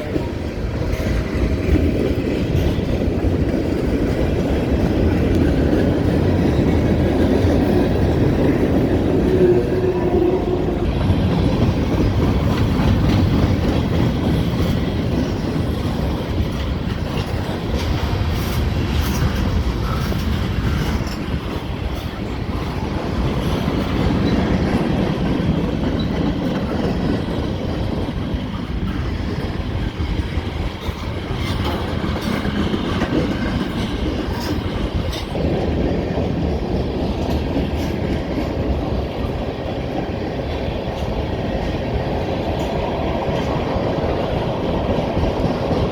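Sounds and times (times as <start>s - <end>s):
train wheels rumbling on rail: 0.0s - 45.9s
wheels clacking over rail joints: 0.0s - 45.9s.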